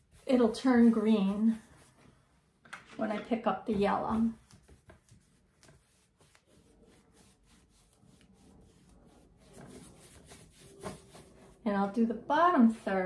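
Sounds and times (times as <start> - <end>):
paintbrush rubbing on canvas: 0.0 - 2.6, 3.6 - 11.6.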